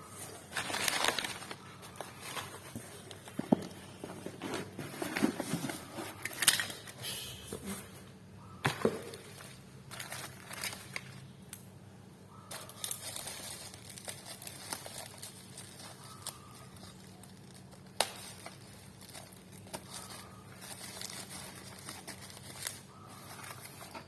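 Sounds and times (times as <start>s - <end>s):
packaging crinkling and rustling: 0.1s - 7.0s, 8.7s - 11.4s, 12.5s - 24.0s.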